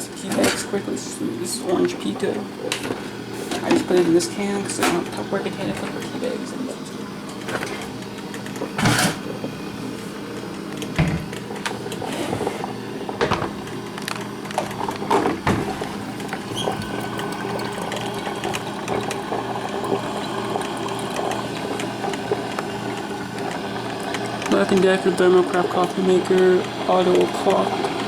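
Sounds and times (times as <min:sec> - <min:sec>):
coffee maker bubbling and gurgling: 0:00.0 - 0:28.0
steady hum: 0:00.0 - 0:28.0.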